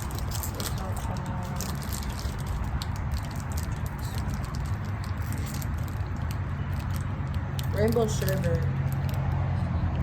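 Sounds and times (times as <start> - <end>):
snack packaging crinkling: 0.0 - 9.4.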